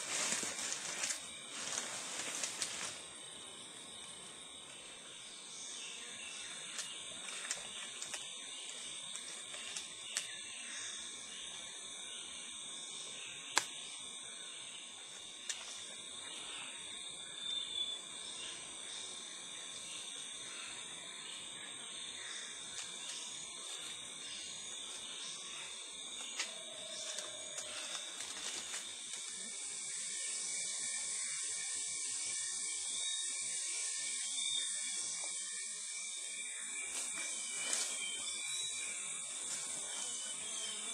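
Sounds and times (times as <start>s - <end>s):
insects chirping chorus: 0.0s - 40.9s.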